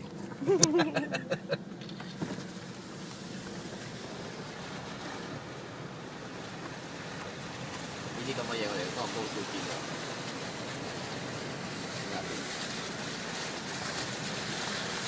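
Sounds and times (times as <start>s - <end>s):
vehicle cabin road noise: 0.0s - 15.0s.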